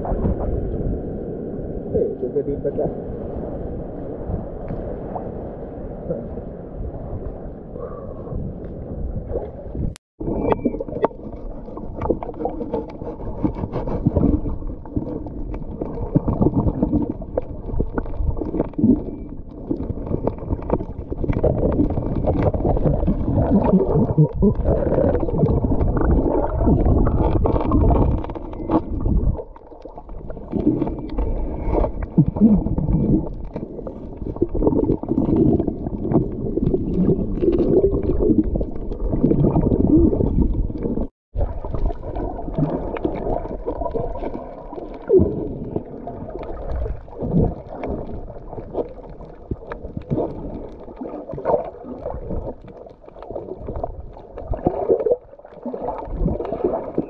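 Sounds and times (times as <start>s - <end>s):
water gurgling and sloshing underwater: 0.0s - 57.0s.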